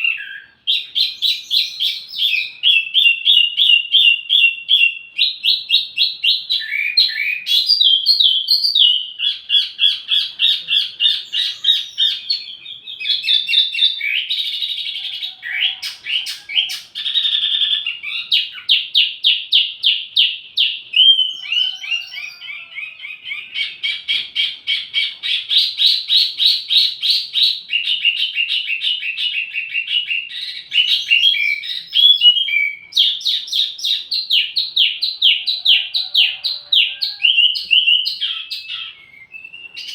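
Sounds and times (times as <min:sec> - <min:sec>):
songbird singing chips and trills: 0:00.0 - 0:39.9.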